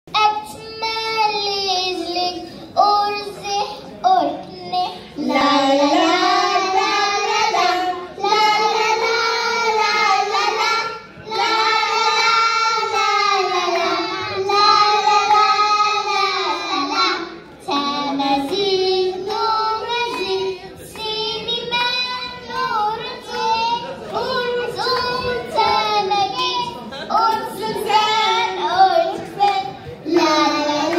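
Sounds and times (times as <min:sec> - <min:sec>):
girls singing together: 0:00.2 - 0:30.9.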